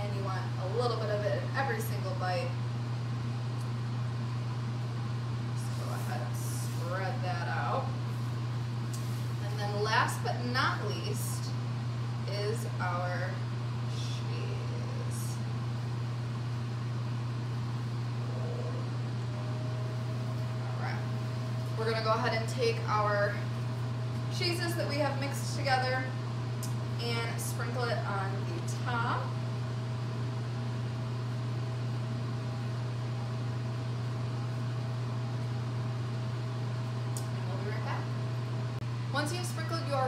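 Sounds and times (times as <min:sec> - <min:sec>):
ventilation fan humming: 0:00.0 - 0:40.0.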